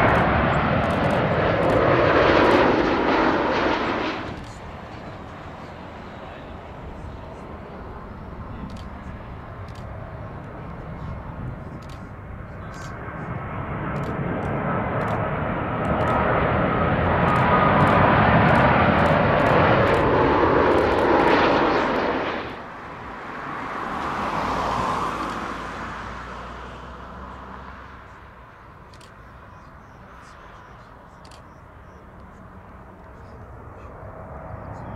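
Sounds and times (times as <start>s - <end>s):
jet plane passing low overhead: 0.0s - 34.9s
second jet plane approaching: 0.0s - 34.9s.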